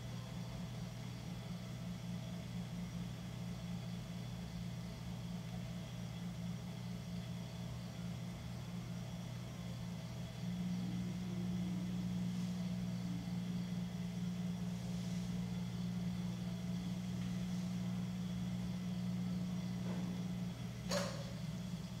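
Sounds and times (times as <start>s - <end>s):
potter's wheel humming: 0.0s - 22.0s.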